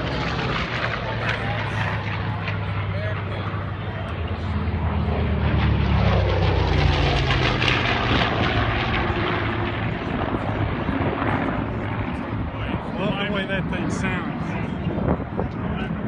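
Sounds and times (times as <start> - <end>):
propeller plane flying by: 0.0 - 16.0.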